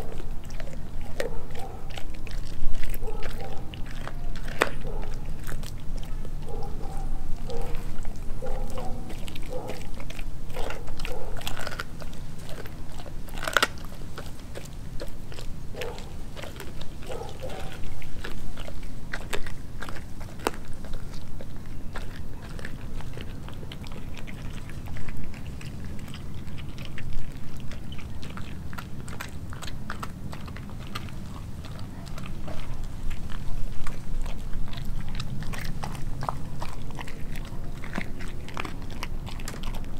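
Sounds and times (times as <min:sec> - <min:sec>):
dog chewing: 0:00.0 - 0:39.9.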